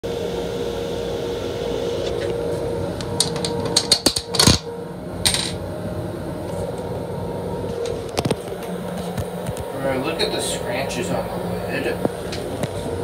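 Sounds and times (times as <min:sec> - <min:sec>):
steady hum with constant tone: 0:00.0 - 0:13.0.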